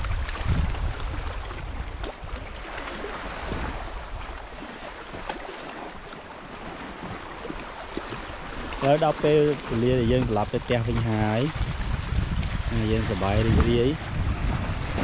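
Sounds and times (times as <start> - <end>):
wind buffeting microphone: 0.0 - 4.6, 7.0 - 15.0
small waves lapping on shore: 0.0 - 15.0.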